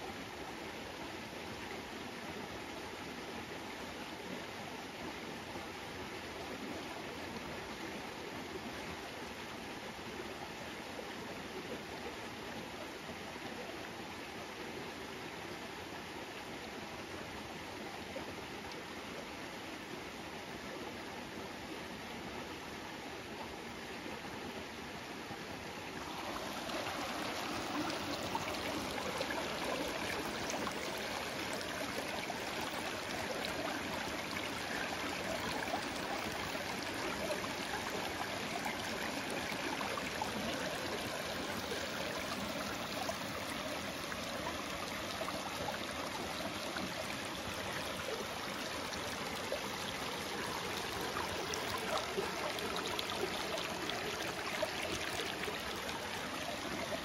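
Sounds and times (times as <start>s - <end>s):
stream water over rocks: 0.0s - 57.0s.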